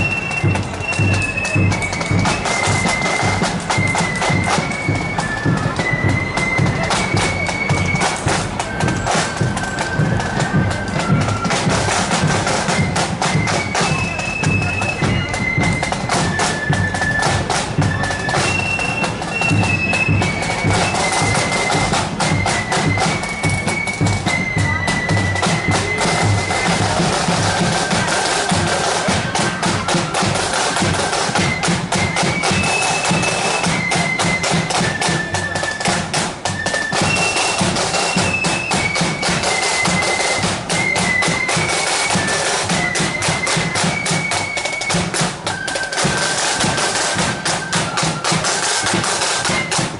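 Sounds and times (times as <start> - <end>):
snare and bass drums march beat: 0.0 - 49.9
wind instruments melody: 0.0 - 49.9.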